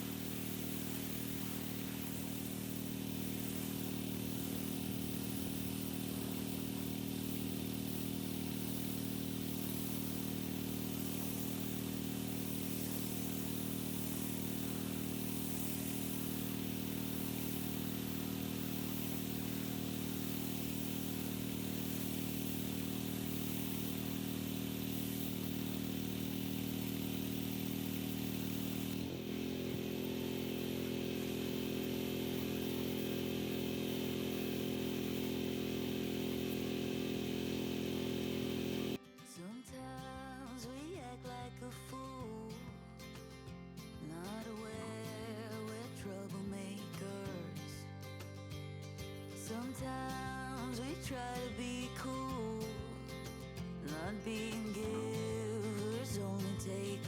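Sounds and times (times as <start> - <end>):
pressure washer engine running: 0.0 - 39.0, 40.4 - 48.2, 49.0 - 57.0.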